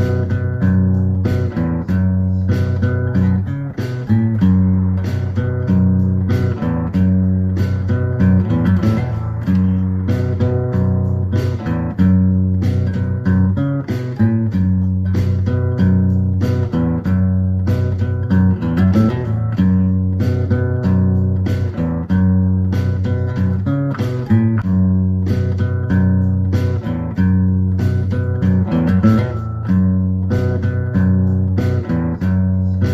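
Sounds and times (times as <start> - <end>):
guitar-led background music: 0.0 - 32.9.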